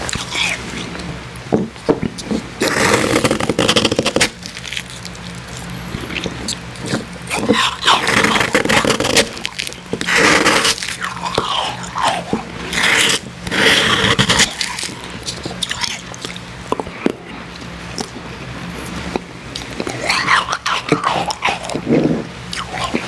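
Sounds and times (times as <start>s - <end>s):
crunching and chewing icy slush: 0.0s - 1.2s, 2.0s - 23.0s.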